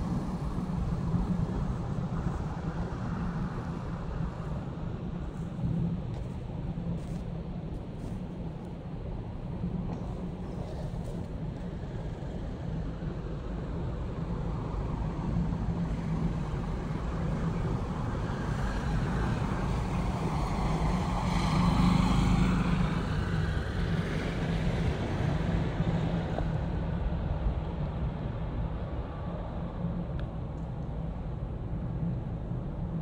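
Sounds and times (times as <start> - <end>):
airplane passing overhead: 0.0 - 33.0.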